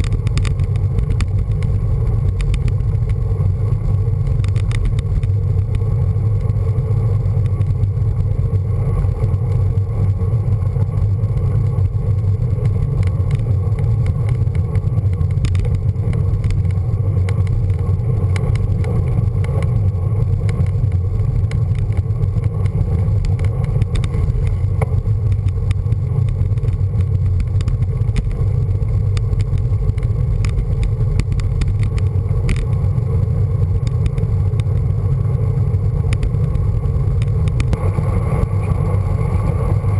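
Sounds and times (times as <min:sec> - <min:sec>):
faint bicycle ticks: 0:00.0 - 0:39.9
wind and road rumble: 0:00.0 - 0:39.9.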